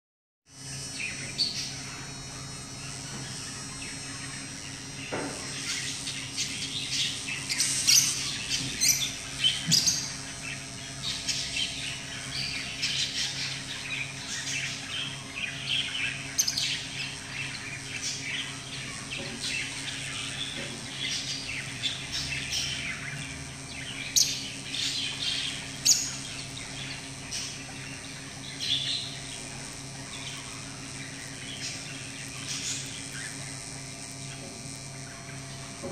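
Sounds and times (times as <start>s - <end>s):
steady low hum: 0.5s - 35.9s
birds chirping and squawking: 0.6s - 35.9s.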